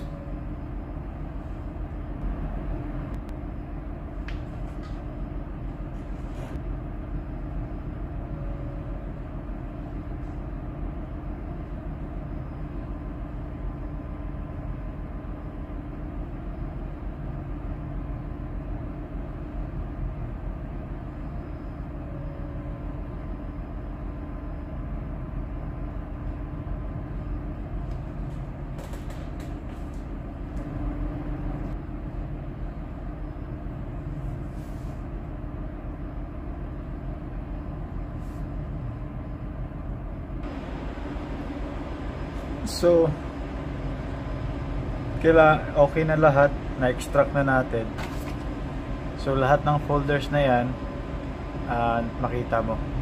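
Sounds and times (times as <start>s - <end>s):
faint droning tone: 0.0s - 53.0s
machinery rumble and hum: 0.0s - 53.0s.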